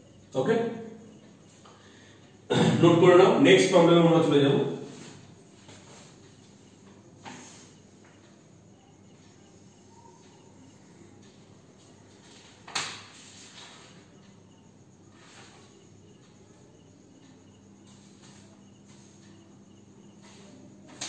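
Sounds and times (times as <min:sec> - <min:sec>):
cricket chirps: 0:00.0 - 0:21.0.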